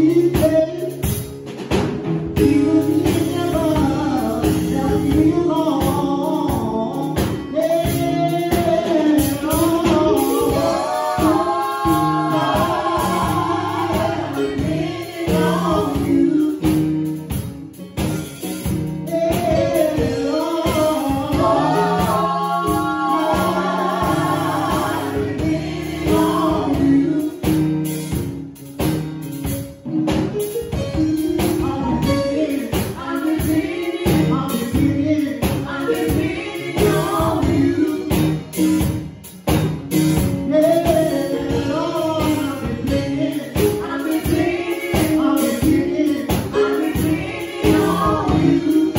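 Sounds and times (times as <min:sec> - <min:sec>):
gospel singing: 0:00.0 - 0:28.6, 0:30.4 - 0:39.4, 0:40.2 - 0:48.9
band with percussive beat: 0:00.0 - 0:48.9.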